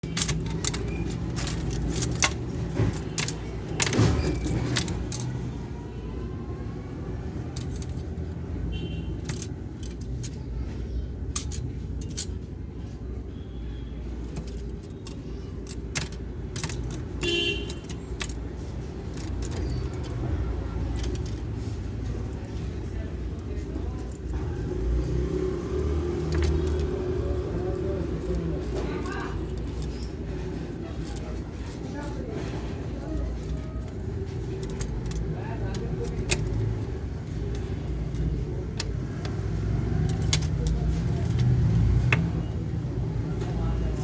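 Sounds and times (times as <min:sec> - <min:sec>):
low traffic rumble: 0:00.0 - 0:44.0.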